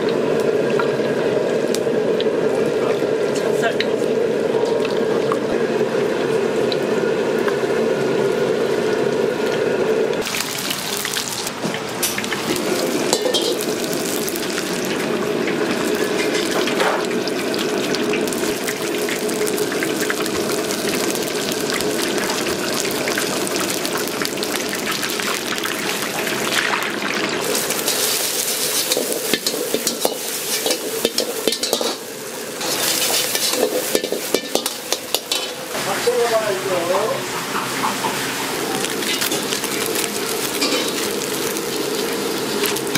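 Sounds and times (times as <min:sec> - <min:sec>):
food sizzling in a wok: 0:00.0 - 0:42.9.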